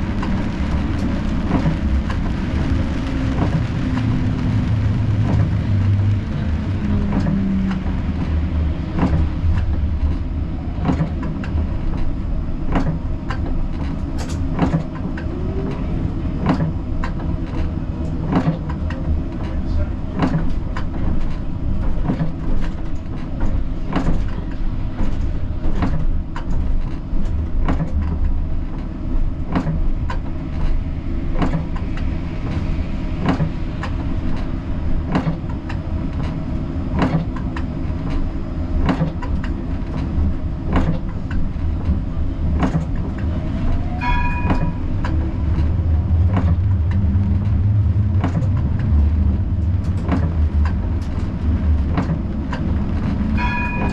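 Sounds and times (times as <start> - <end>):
tram wheels rumbling: 0.0 - 53.9
clicks from rail joints: 5.1 - 53.9.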